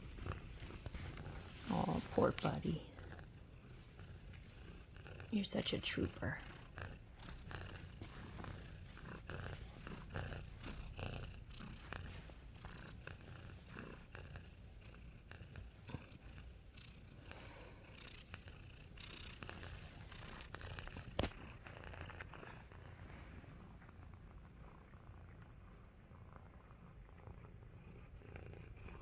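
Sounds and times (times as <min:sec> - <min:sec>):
faint clicks and rustles: 0:00.0 - 0:05.3, 0:06.9 - 0:17.4, 0:18.2 - 0:29.0
cat purring: 0:00.0 - 0:29.0.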